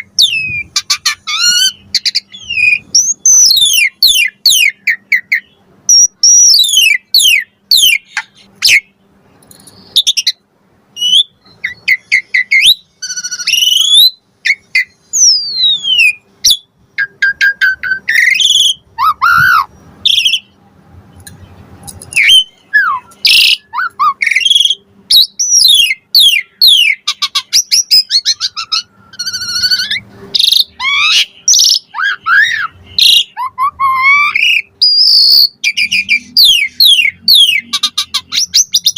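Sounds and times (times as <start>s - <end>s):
starling singing whistles and chirps: 0.0s - 9.0s, 11.0s - 20.6s, 22.1s - 38.9s.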